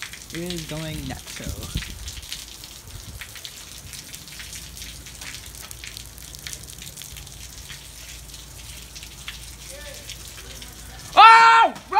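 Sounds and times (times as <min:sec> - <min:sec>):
heavy rain falling: 0:00.0 - 0:11.9
raindrops hitting close by: 0:00.0 - 0:11.9.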